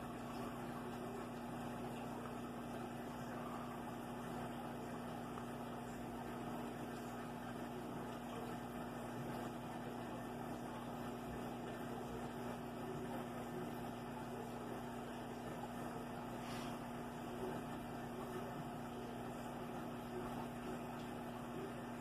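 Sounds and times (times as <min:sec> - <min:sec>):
aquarium equipment humming: 0:00.0 - 0:22.0.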